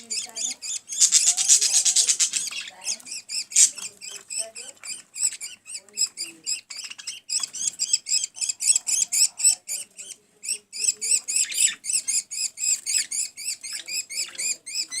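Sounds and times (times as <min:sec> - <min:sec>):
bird chicks begging chirps: 0:00.0 - 0:15.0.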